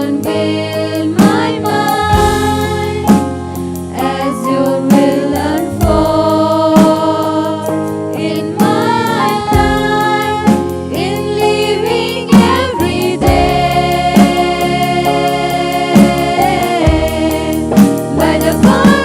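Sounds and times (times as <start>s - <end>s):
congregation singing a hymn: 0.0s - 19.0s
keyboard and drums: 0.0s - 19.0s.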